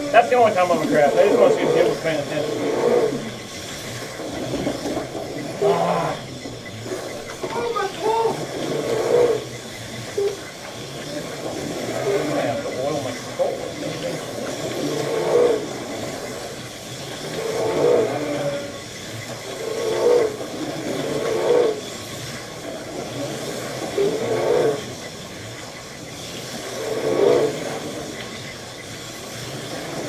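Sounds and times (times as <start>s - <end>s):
slot car motors whining: 0.0s - 30.0s
steady hiss: 0.0s - 30.0s.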